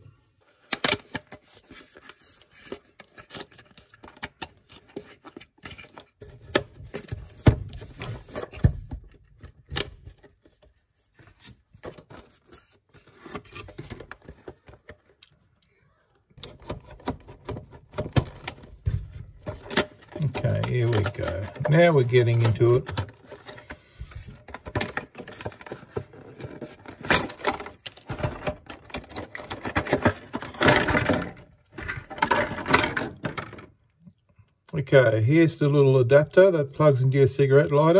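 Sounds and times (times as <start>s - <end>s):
plastic and card clicking and crinkling: 0.5s - 34.4s.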